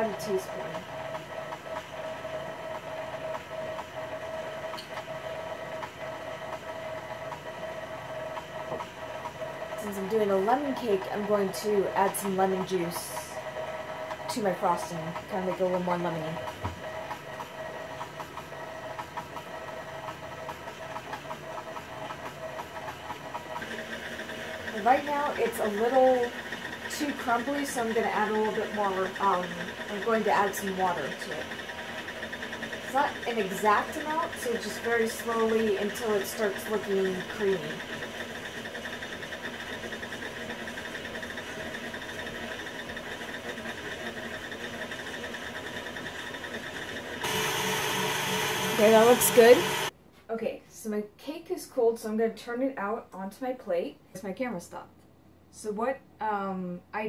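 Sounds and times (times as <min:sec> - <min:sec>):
stand mixer motor whirring: 0:00.0 - 0:49.9
whisk ticking: 0:00.8 - 0:49.9.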